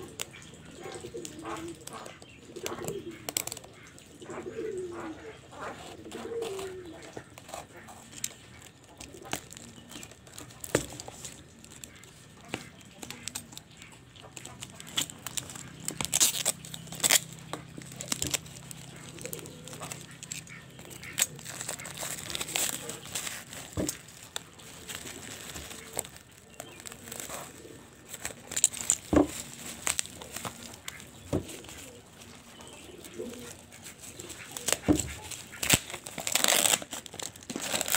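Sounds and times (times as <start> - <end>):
plastic wrapping crinkling and tearing: 0.0 - 4.0, 5.7 - 37.9.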